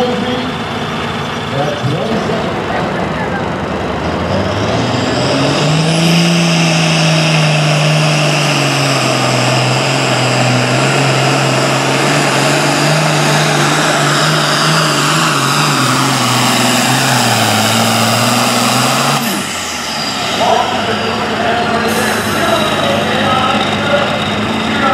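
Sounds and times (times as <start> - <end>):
diesel tractor engine at full throttle: 0.0 - 24.9.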